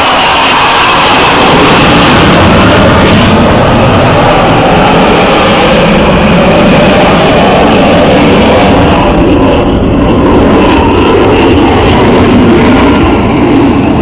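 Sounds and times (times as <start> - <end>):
aircraft flying low overhead: 0.0 - 14.0.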